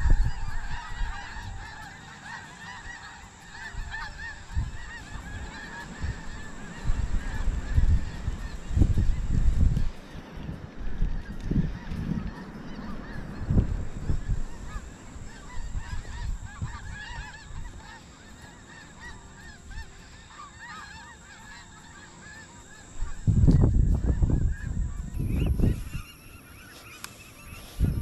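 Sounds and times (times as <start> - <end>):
distant flock of birds calling: 0.0 - 28.0.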